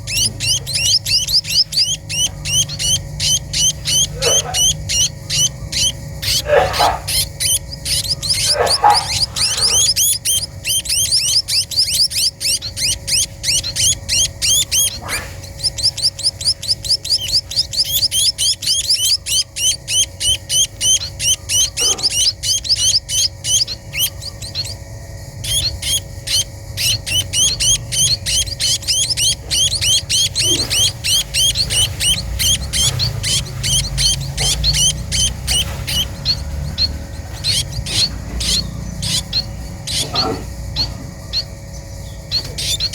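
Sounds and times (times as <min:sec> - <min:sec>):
small birds chirping rapidly: 0:00.0 - 0:42.9.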